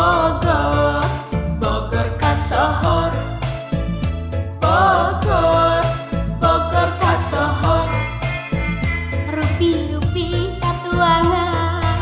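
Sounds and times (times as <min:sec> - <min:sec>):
song with drums and bass: 0:00.0 - 0:12.0.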